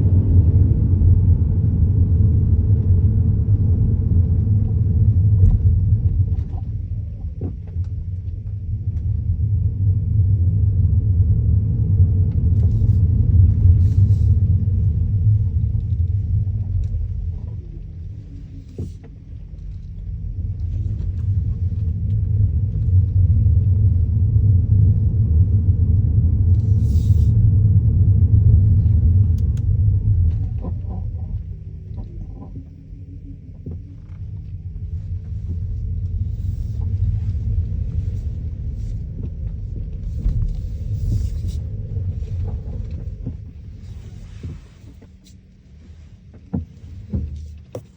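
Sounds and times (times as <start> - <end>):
road and tyre rumble: 0.0 - 47.9.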